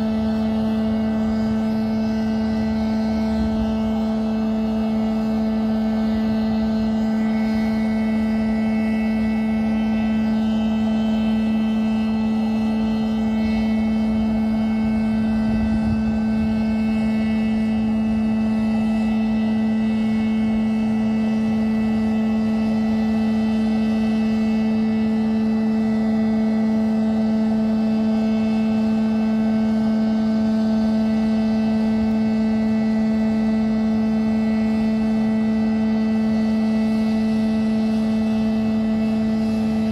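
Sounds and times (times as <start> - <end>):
jet turbine hum and whine: 0.0 - 39.9.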